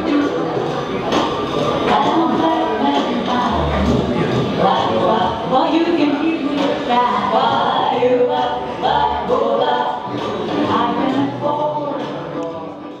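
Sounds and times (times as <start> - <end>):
unaccompanied choir singing: 1.8 - 12.8.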